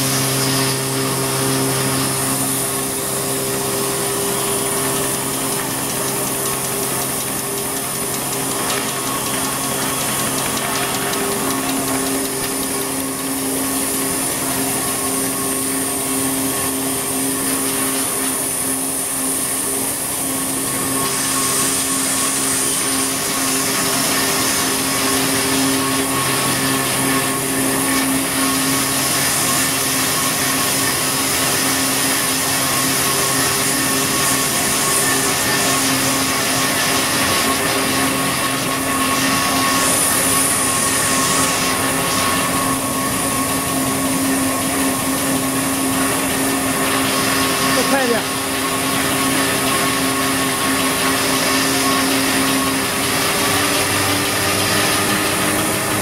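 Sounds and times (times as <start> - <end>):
machine whirring and humming: 0.0 - 56.0.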